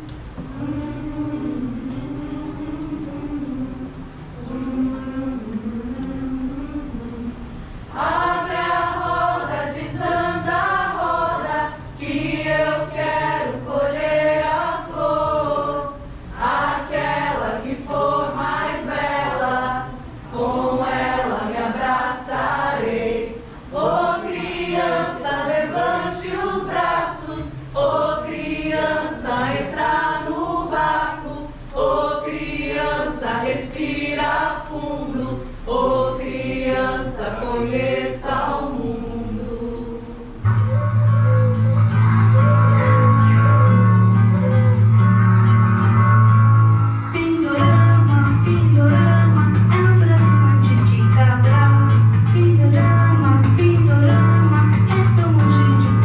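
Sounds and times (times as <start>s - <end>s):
group of voices singing: 0.0s - 45.0s.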